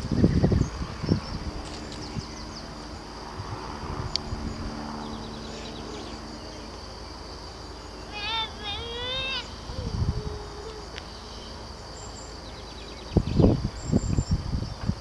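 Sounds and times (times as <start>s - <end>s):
small birds chirping: 0.0s - 3.1s, 3.9s - 15.0s
faint low drone: 0.0s - 14.4s
high insect-like hum: 0.0s - 15.0s.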